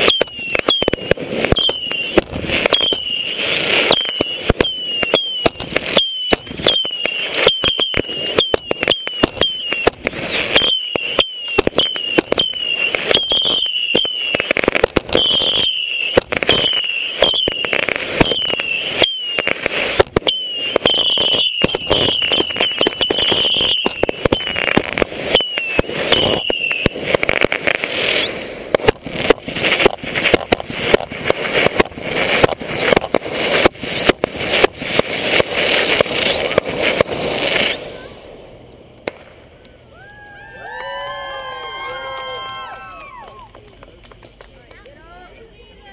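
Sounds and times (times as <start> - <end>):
firework whistles: 0.0 - 38.2
fireworks shots and bursts: 0.0 - 39.6.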